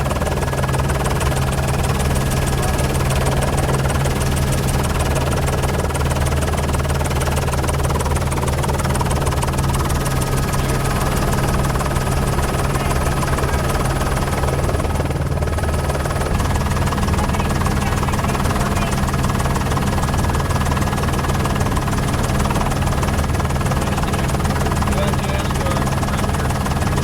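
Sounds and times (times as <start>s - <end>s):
helicopter rotor and engine drone: 0.0s - 27.0s.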